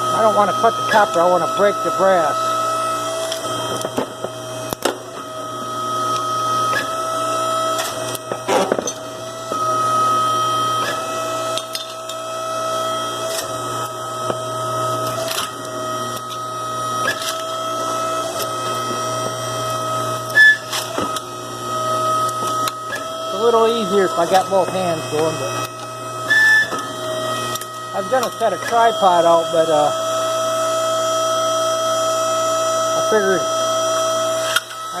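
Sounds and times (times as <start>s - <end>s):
machine whining hum: 0.0s - 35.0s.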